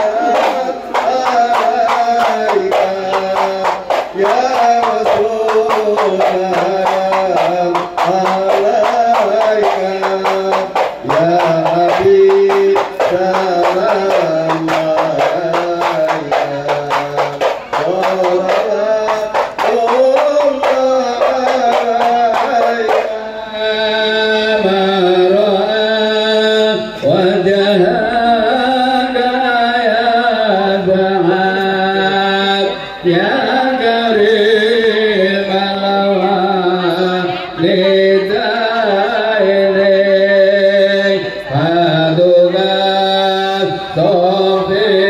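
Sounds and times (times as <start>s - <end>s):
fast hand-drum strokes: 0.0s - 45.0s
person singing: 0.0s - 45.0s.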